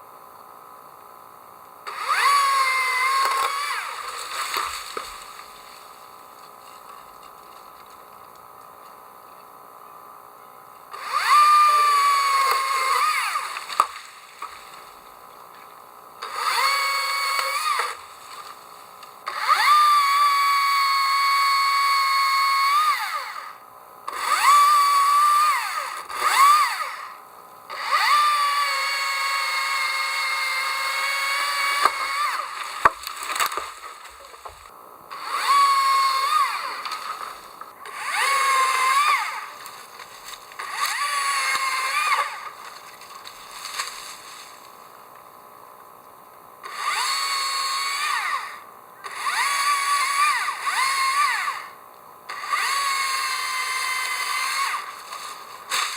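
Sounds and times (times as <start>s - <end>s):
chainsaw revving and cutting: 0.0s - 9.8s, 10.8s - 55.9s.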